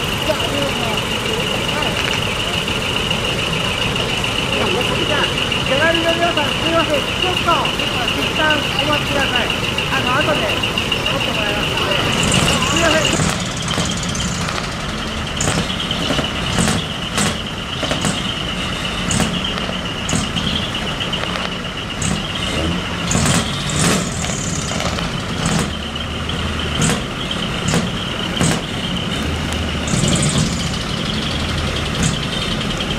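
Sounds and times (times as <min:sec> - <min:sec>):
high-pitched whine: 0:00.0 - 0:32.9
trucks idling rumble: 0:00.0 - 0:32.9.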